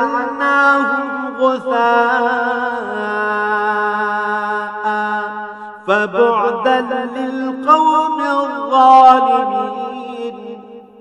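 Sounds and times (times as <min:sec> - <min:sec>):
man chanting melodically: 0:00.0 - 0:10.8.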